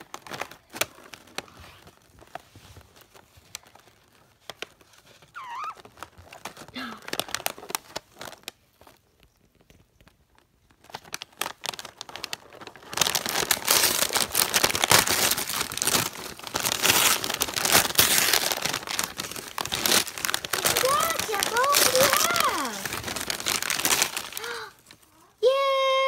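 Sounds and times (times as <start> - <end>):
wrapping paper crinkling and tearing: 0.0 - 26.0.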